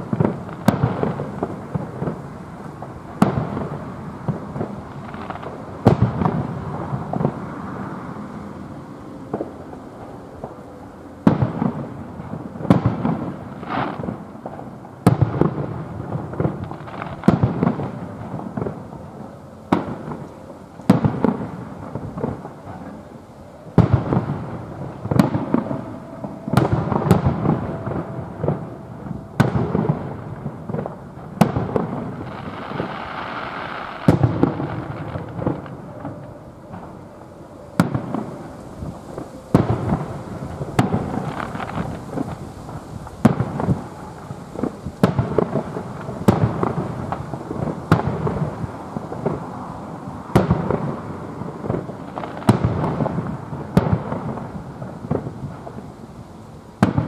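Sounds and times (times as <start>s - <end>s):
low rolling rumble: 0.0s - 55.9s
firework bangs: 0.0s - 56.0s, 56.8s - 57.0s.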